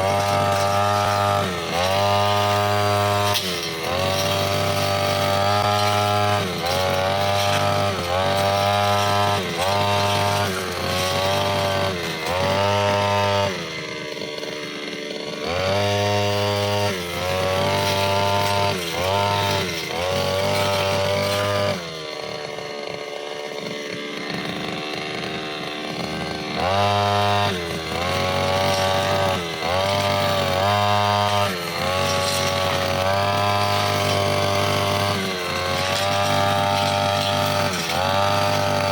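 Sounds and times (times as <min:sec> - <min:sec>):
brushcutter engine revving: 0:00.0 - 0:38.9.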